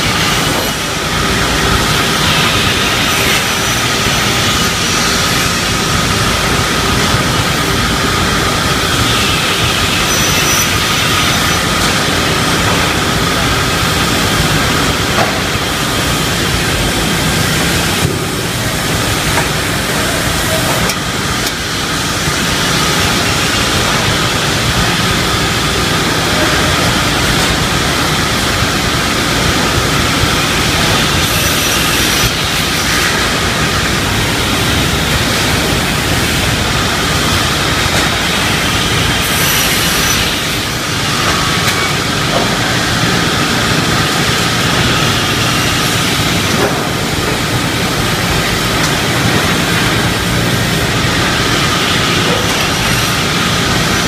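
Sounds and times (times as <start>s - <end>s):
saw machine running: 0.0s - 54.0s.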